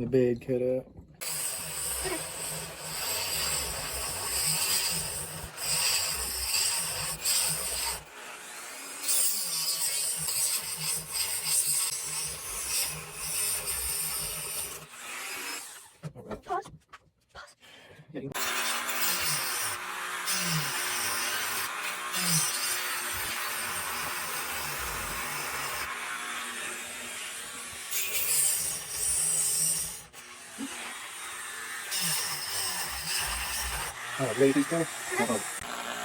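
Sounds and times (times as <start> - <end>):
tool scraping and chipping wood: 1.2 - 17.0, 18.4 - 36.0.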